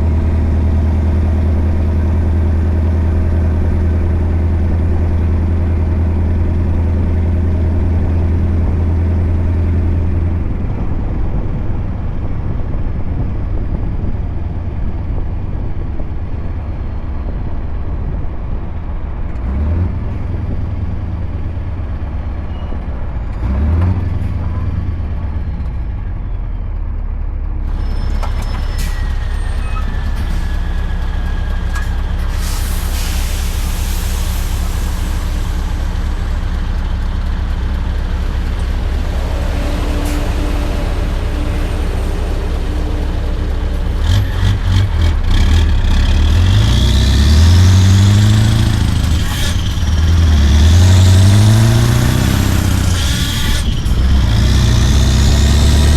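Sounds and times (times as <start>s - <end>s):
truck engine deep drone: 0.0s - 55.9s.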